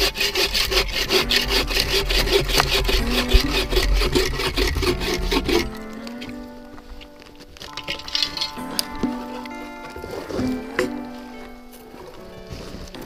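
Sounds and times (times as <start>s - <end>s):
bow saw cutting wood: 0.0s - 11.5s.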